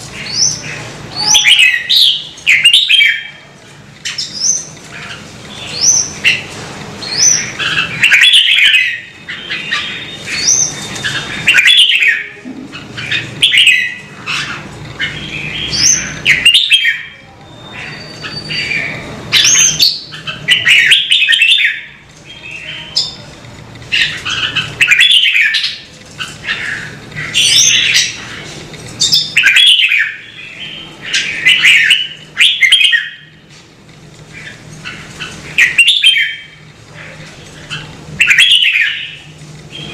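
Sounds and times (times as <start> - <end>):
bird chirpy song: 0.0 - 33.6, 34.3 - 39.9.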